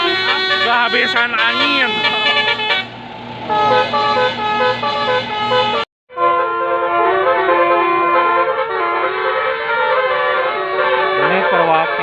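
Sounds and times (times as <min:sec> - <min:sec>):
bus air horns playing tune: 0:00.0 - 0:12.0.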